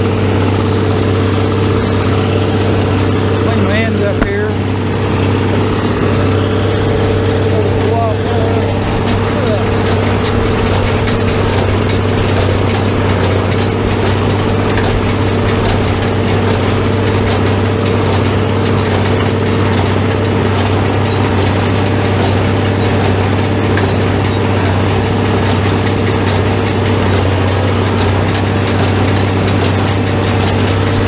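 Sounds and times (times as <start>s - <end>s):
tractor engine humming: 0.0s - 31.0s.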